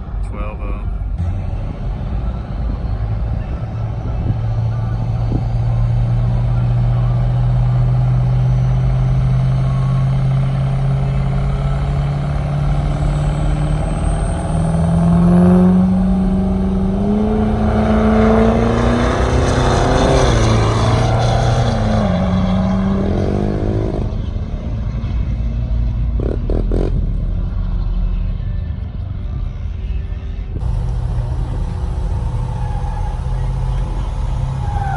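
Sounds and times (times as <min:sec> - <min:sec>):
truck engine idling and revving: 0:00.0 - 0:34.9.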